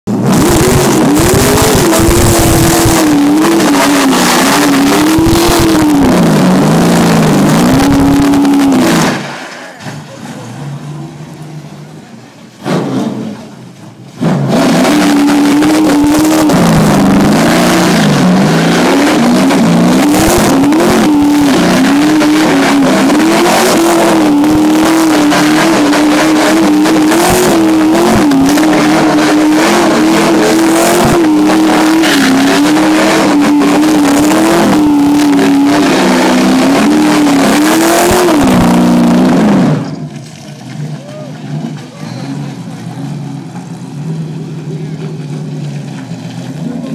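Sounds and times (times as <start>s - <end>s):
truck engine revving hard: 0.0s - 46.9s
tyres spinning on dirt: 0.2s - 46.9s.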